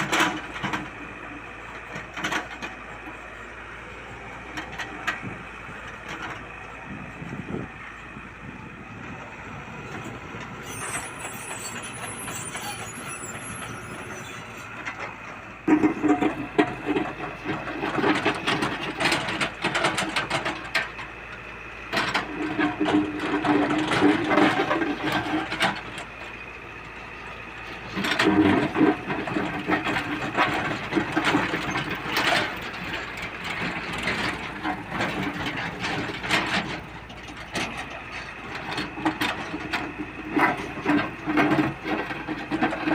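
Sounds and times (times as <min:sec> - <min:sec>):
excavator diesel engine: 0:00.0 - 0:42.9.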